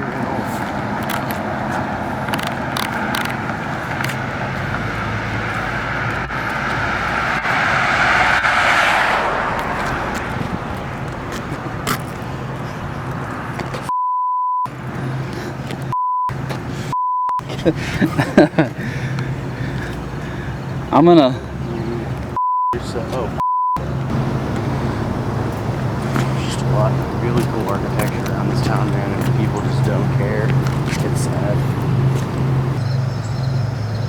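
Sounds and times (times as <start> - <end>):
vehicle passing close by: 0.0 - 13.9, 14.7 - 34.0
street traffic: 0.0 - 14.0, 14.6 - 34.0.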